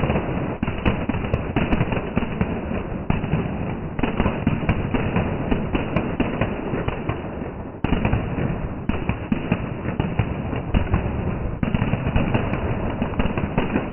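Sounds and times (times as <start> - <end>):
slowed-down firecrackers banging: 0.0 - 13.9.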